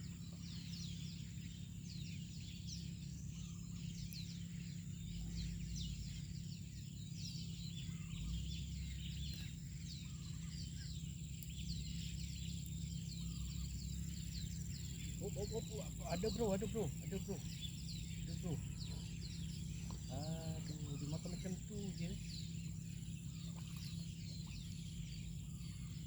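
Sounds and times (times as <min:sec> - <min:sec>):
birds chirping: 0:00.0 - 0:26.0
low outdoor hum: 0:00.0 - 0:26.0.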